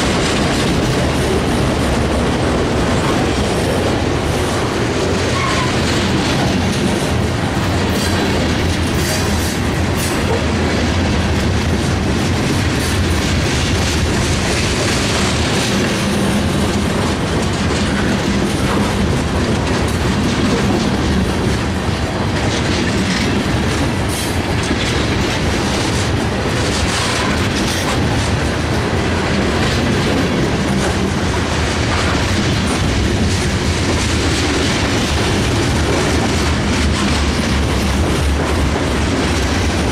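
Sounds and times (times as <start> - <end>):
freight train cars rumbling: 0.0 - 39.9
wheels clicking on rails: 0.0 - 39.9.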